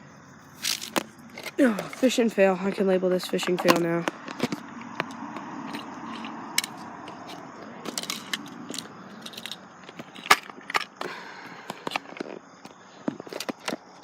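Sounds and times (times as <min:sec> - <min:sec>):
clicks and crunches of handling: 0:00.6 - 0:02.1, 0:03.4 - 0:14.0.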